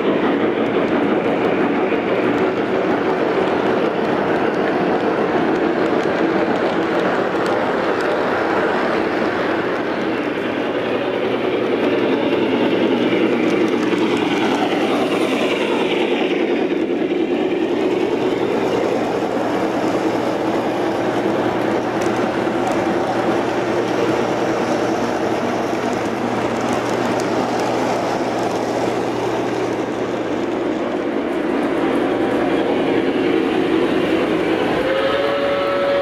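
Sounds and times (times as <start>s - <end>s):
model train wheels rumbling on rails: 0.0s - 36.0s.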